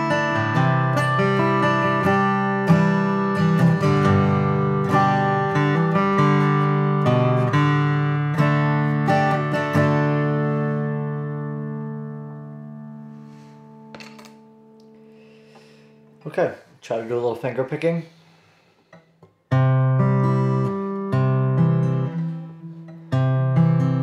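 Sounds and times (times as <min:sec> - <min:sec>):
acoustic guitar strummed chords: 0:00.0 - 0:16.3, 0:18.2 - 0:24.0.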